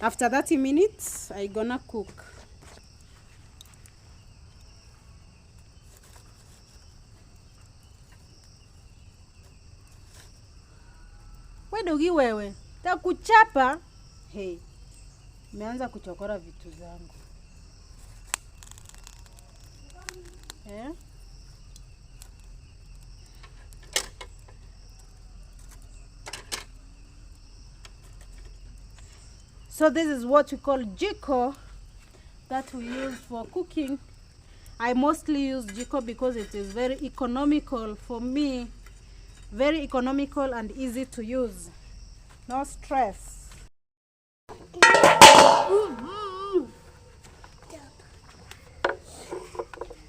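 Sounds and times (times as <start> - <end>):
crickets trilling faintly: 0.0 - 43.7, 44.5 - 50.0.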